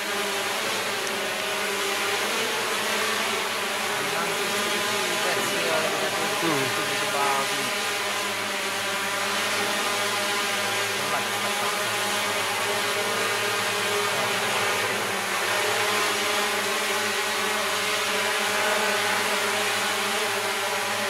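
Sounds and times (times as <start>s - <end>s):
drone hovering whine: 0.0s - 21.0s.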